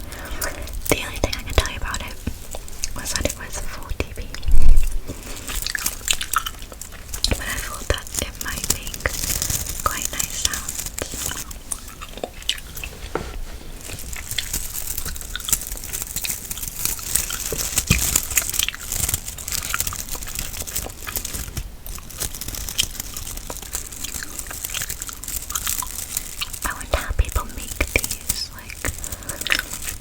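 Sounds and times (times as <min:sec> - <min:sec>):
gum chewing mouth clicks: 0:00.1 - 0:13.0, 0:14.0 - 0:30.0.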